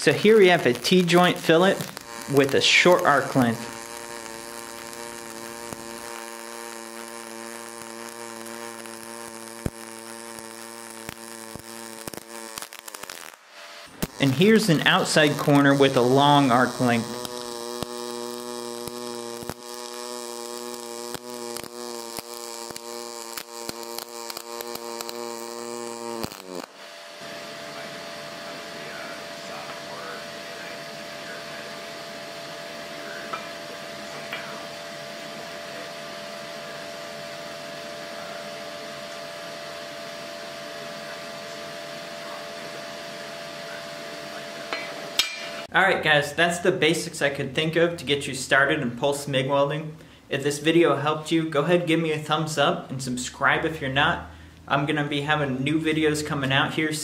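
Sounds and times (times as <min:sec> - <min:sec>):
welding arc buzzing and crackling: 0:00.0 - 0:57.0.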